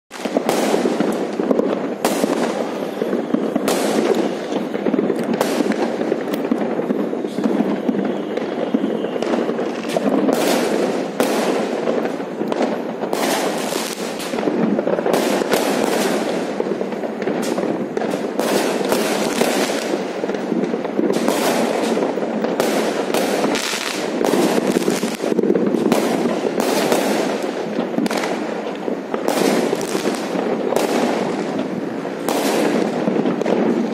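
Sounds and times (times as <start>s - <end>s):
fireworks and firecrackers bangs: 0.1s - 33.9s.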